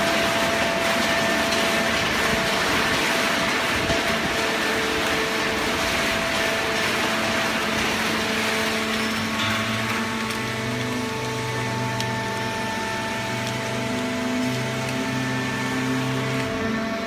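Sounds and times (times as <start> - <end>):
baling press machine running: 0.0 - 17.0.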